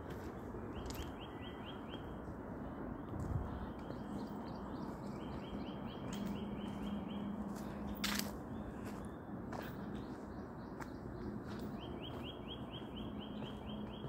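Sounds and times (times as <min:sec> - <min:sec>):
songbird chirping: 0:00.2 - 0:02.2, 0:03.0 - 0:14.0.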